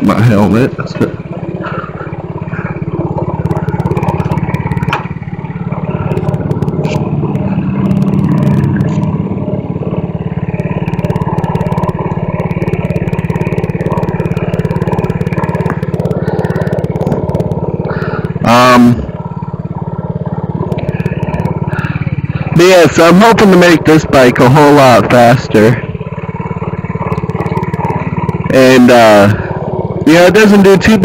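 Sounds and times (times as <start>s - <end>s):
mini bike engine running: 0.0s - 31.0s.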